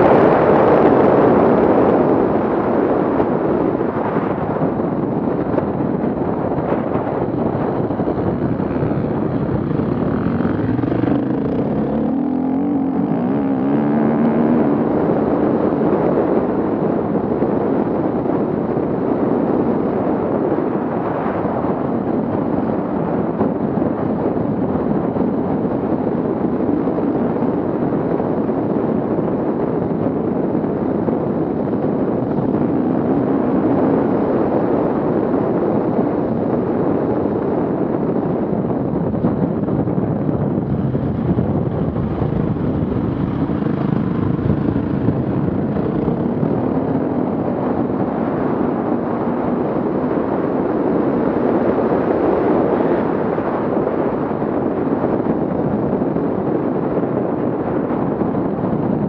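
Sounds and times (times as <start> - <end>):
off-road vehicle engines rumbling: 0.0 - 59.0
wind on microphone: 0.0 - 59.0.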